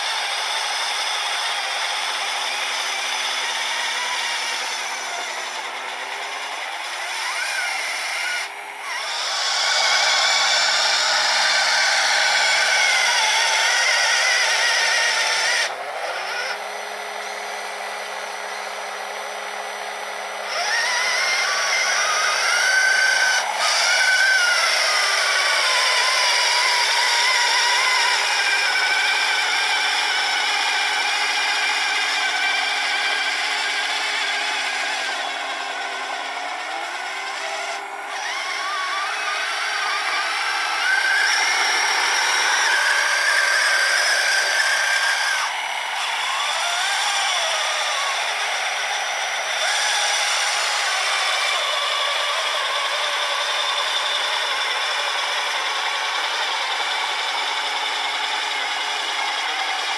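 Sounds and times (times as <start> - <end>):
small electric motors whining: 0.0 - 59.9.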